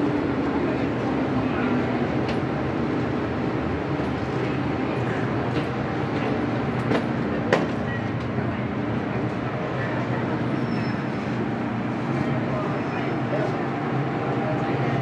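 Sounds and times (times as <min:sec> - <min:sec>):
train running at speed: 0:00.0 - 0:15.0.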